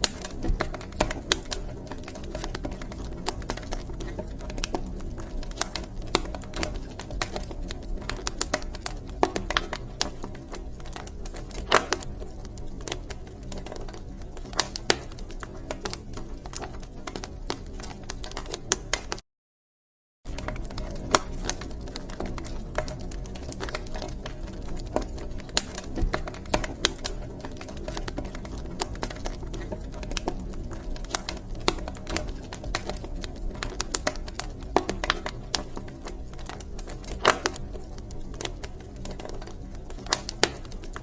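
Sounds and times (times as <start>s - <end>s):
low rumble of burning logs: 0.0s - 19.2s, 20.3s - 41.0s
wood fire crackling and popping: 0.0s - 19.2s, 20.3s - 41.0s.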